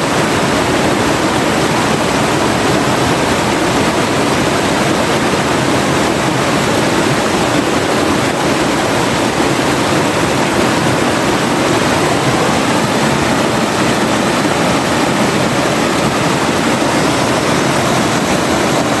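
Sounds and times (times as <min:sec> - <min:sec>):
forest river flowing: 0:00.0 - 0:19.0.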